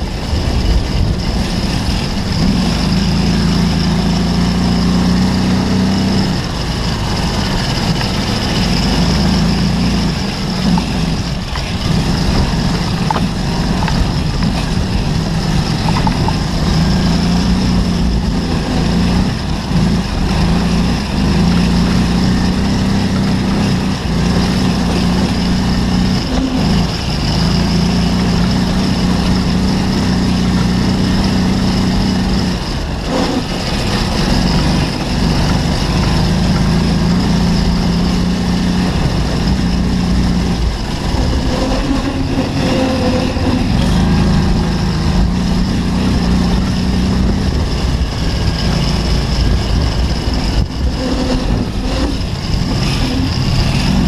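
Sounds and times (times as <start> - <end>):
buggy engine running under load: 0.0 - 54.0.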